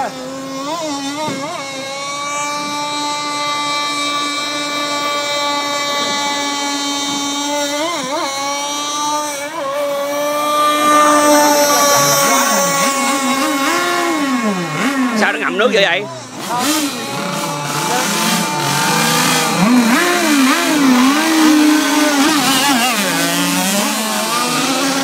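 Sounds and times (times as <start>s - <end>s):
model boat engine running: 0.0s - 25.0s.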